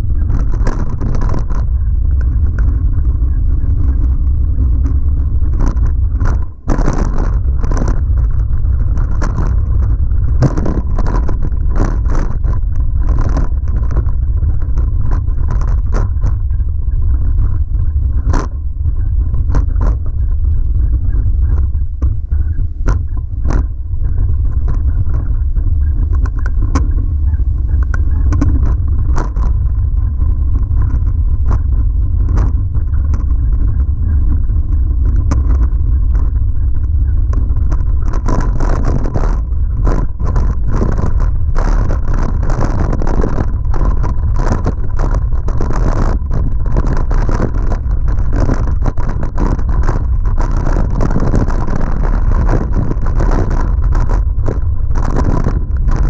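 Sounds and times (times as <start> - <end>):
mountain bike rattling on rocks: 0.0 - 56.0
wind on microphone: 0.0 - 56.0.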